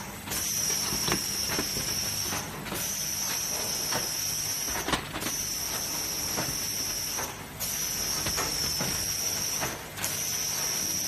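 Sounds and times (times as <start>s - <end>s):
machine high whine: 0.3s - 11.0s.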